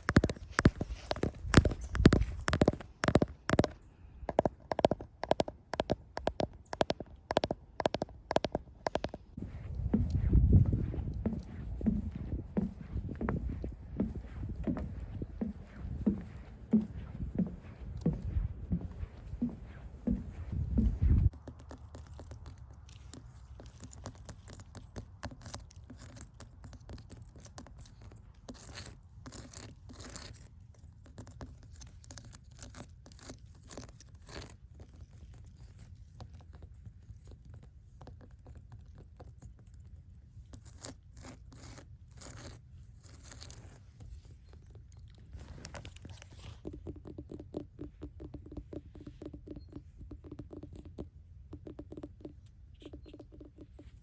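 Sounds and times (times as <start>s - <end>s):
scratching and scraping with light taps: 0.0s - 54.0s.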